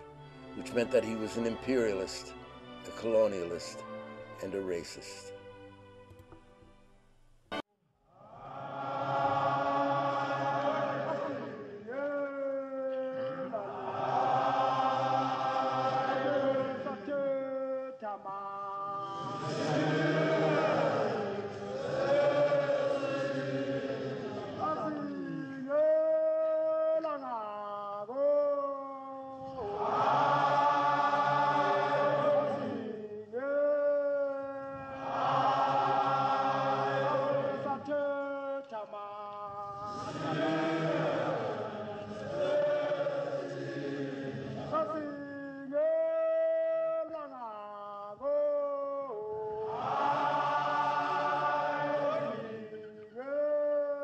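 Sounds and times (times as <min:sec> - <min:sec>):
voices chanting long held notes: 0:08.2 - 0:38.7, 0:39.4 - 0:54.0.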